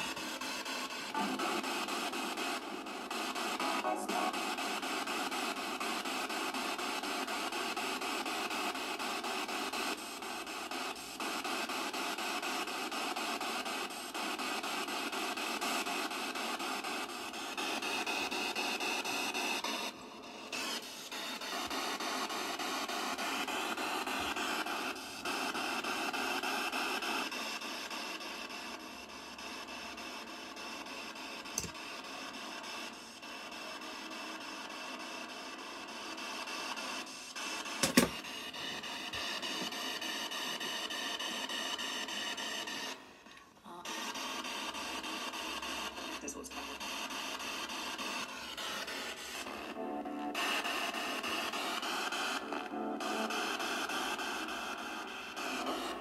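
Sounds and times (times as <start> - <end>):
radio static hiss: 0.0 - 33.7, 43.5 - 56.0.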